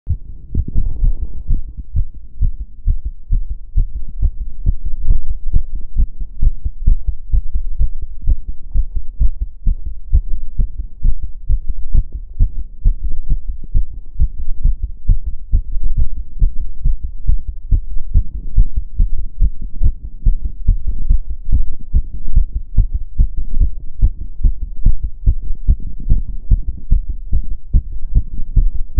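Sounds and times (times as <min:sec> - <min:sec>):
fast heartbeat: 0:00.1 - 0:28.9.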